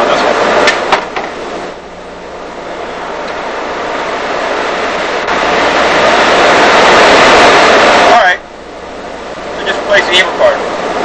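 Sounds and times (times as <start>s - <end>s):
machine rushing hum: 0.0s - 11.0s.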